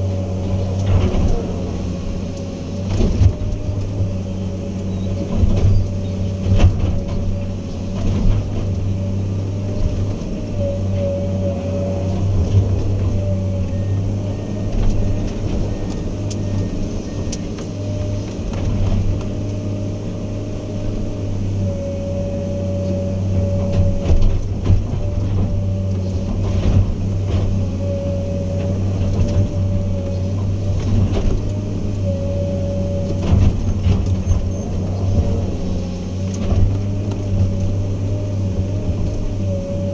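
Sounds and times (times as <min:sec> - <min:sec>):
diesel engine running: 0:00.0 - 0:39.9
high machine whine: 0:00.0 - 0:39.9.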